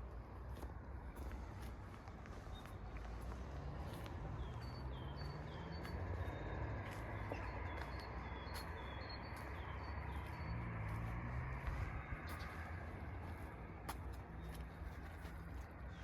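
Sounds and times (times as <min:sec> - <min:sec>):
songbird chirping: 0:02.2 - 0:16.0.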